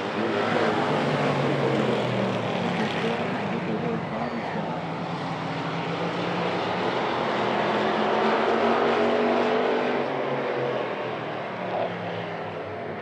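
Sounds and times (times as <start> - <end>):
race car engines at speed: 0.0 - 13.0.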